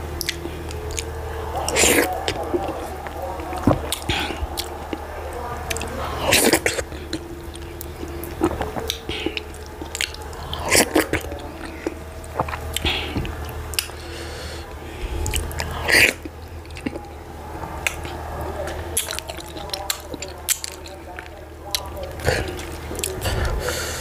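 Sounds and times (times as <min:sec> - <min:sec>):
steady low hum: 0:00.0 - 0:24.0
wet chewing and mouth smacks: 0:00.2 - 0:05.1, 0:05.7 - 0:14.1, 0:15.1 - 0:17.0, 0:18.9 - 0:23.4.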